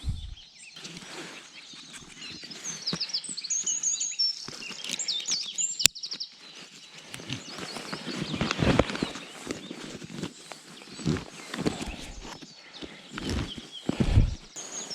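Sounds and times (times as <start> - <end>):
rustles: 0.0 - 14.9
songbirds chirping: 0.0 - 14.9.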